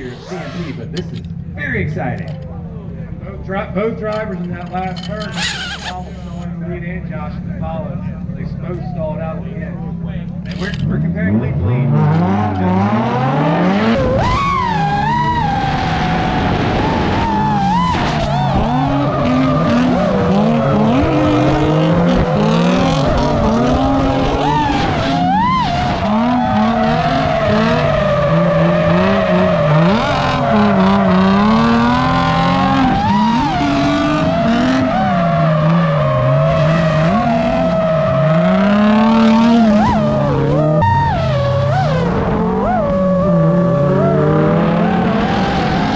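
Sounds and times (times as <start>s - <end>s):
tyres squealing and skidding: 0.0s - 1.3s, 4.2s - 6.6s, 11.6s - 45.9s
car engines revving: 0.0s - 45.9s.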